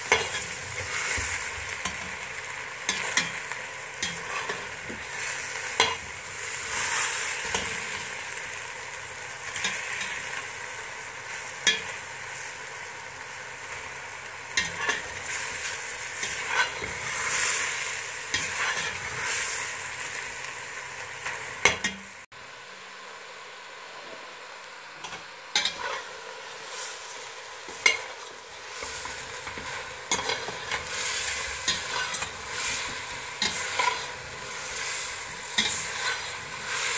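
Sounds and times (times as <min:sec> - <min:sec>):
chicken sizzling in oil: 0:00.0 - 0:36.9.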